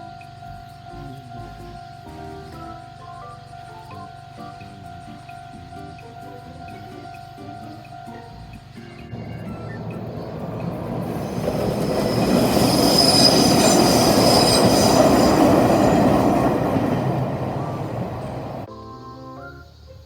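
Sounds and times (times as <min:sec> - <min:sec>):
electric train rumble: 0:00.0 - 0:18.7
high wheel squeal: 0:01.5 - 0:18.7.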